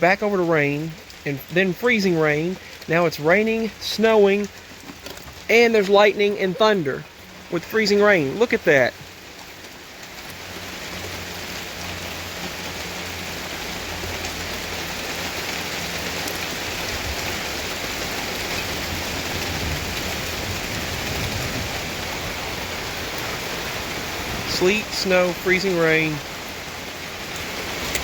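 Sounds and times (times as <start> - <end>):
freezing rain and snow hissing: 0.0 - 28.0.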